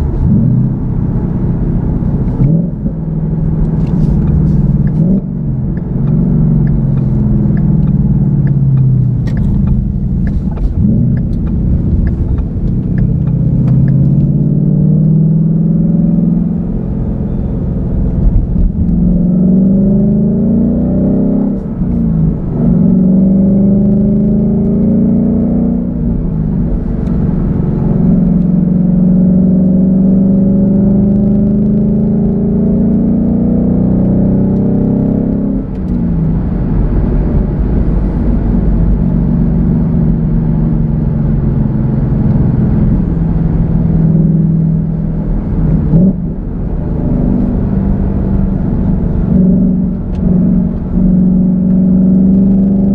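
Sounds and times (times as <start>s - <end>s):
car engine accelerating through gears: 0.0s - 52.9s.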